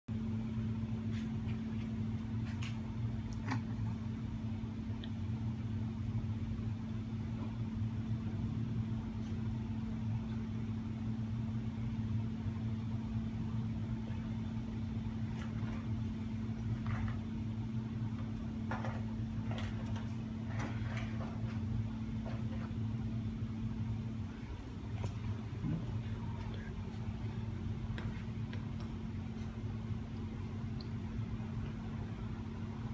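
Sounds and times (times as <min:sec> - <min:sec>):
low machine hum: 0:00.1 - 0:32.9.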